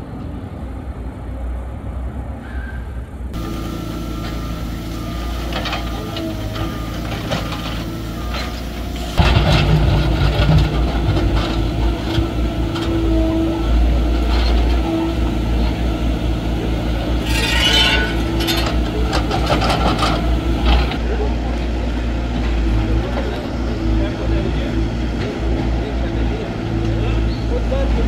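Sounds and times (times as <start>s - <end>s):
diesel engines running: 3.0s - 28.0s.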